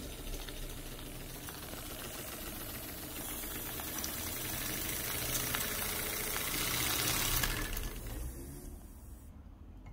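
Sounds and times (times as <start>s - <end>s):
model steam engine clicking: 0.0s - 8.3s.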